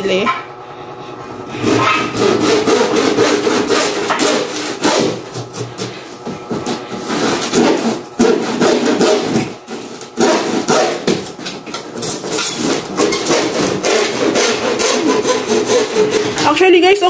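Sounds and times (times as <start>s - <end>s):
hand saw cutting plastic: 1.6s - 16.6s.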